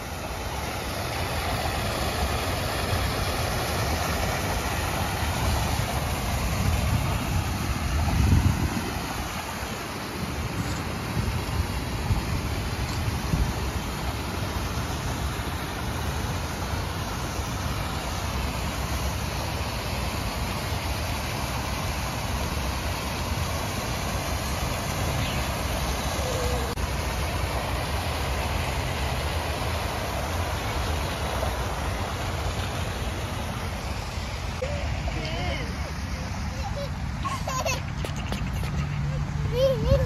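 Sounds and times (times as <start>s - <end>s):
fountain water splashing: 0.0s - 40.0s
low rumble of road traffic: 0.0s - 40.0s.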